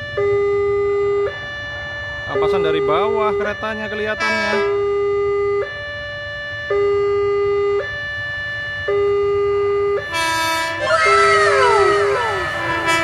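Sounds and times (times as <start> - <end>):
two-tone crossing alarm: 0.0 - 13.0.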